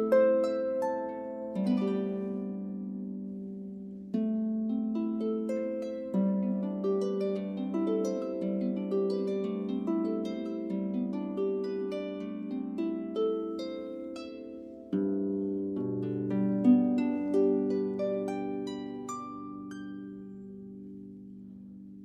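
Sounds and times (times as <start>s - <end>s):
solo harp playing: 0.0s - 22.0s.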